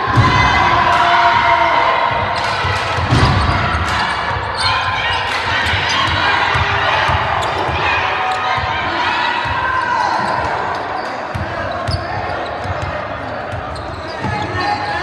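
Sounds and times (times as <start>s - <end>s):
crowd and player voices: 0.0s - 15.0s.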